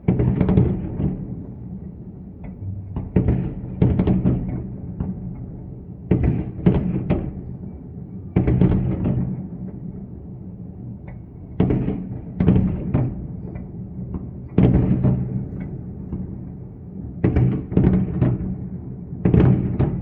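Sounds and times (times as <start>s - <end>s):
fireworks booming with echo: 0.0s - 10.4s, 11.0s - 20.0s.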